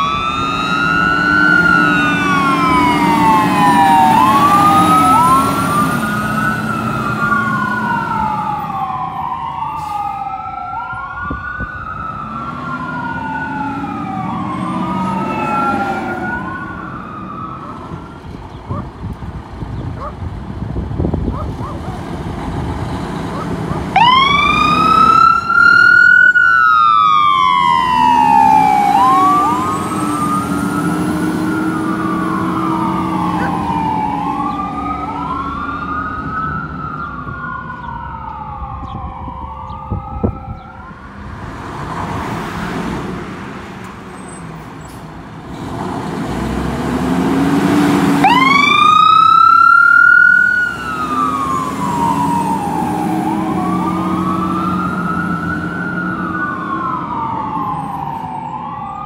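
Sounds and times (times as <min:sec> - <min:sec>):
fire engine siren wailing: 0:00.0 - 0:44.0, 0:46.2 - 0:59.0
engine rumble: 0:00.0 - 0:59.0.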